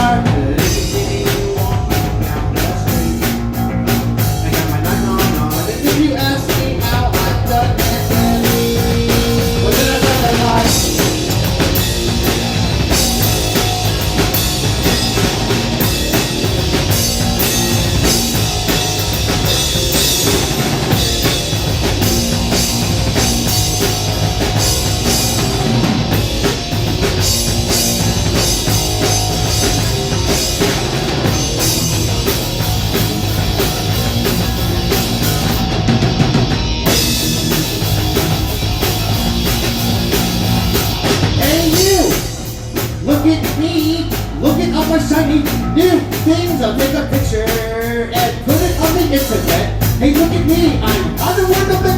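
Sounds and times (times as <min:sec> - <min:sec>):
rock band playing: 0:00.0 - 0:51.9.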